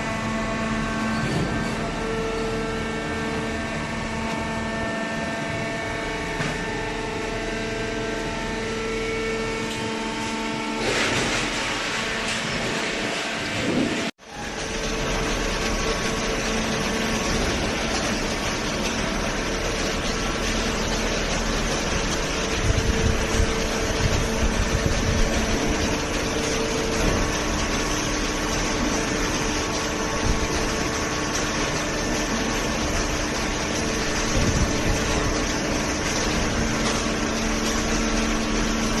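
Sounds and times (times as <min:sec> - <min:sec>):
hydraulic baler motor humming: 0:00.0 - 0:39.0.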